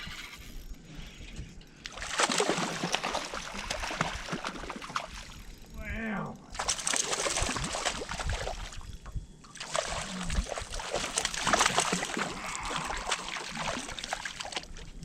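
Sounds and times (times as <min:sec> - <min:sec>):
water splashing and sloshing: 0:01.7 - 0:05.7, 0:06.4 - 0:15.0.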